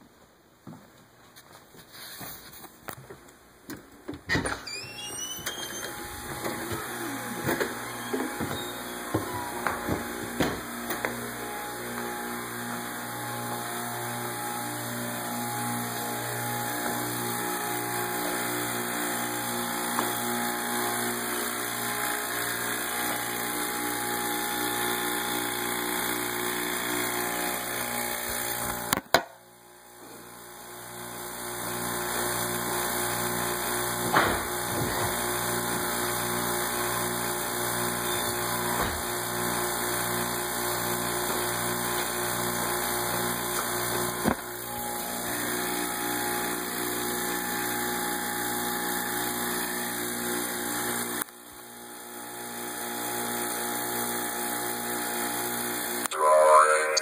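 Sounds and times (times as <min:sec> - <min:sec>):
vacuum pump humming: 0:04.7 - 0:29.0, 0:29.7 - 0:56.1.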